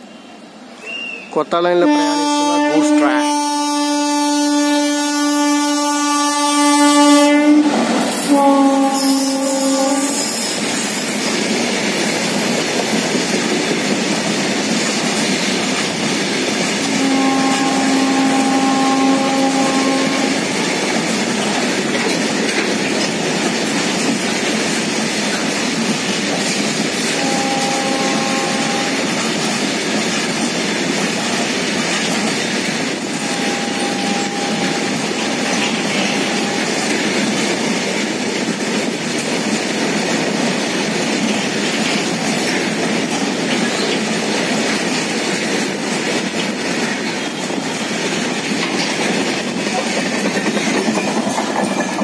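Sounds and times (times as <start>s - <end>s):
train wheels rumbling: 0.0s - 52.0s
clickety-clack over rail joints: 6.6s - 52.0s.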